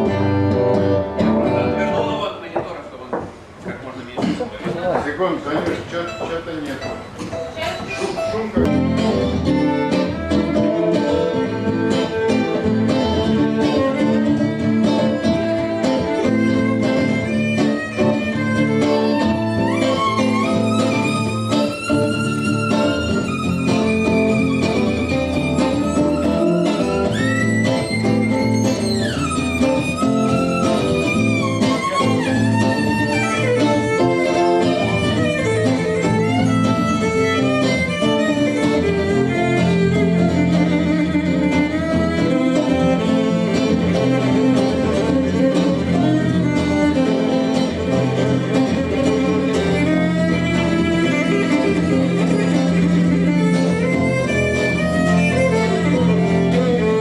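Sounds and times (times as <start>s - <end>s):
guitar accompaniment: 0.0s - 57.0s
violin playing: 8.2s - 57.0s.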